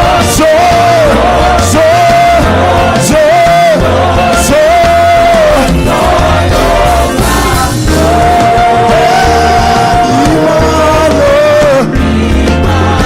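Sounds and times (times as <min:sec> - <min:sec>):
gospel band with heavy bass: 0:00.0 - 0:13.0.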